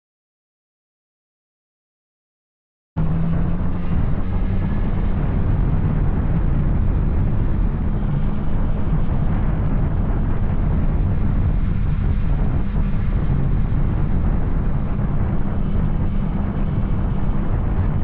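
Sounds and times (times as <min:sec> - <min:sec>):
motorcycle engine running: 0:03.0 - 0:18.0.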